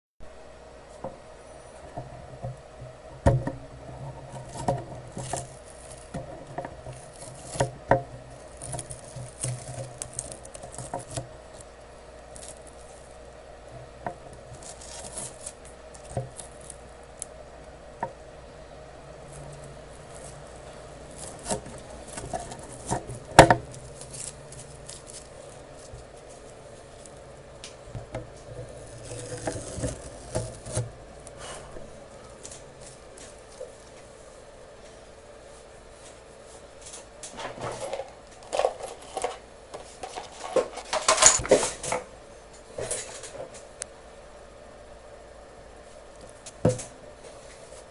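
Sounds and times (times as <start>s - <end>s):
steady electrical hum: 0.2s - 47.9s.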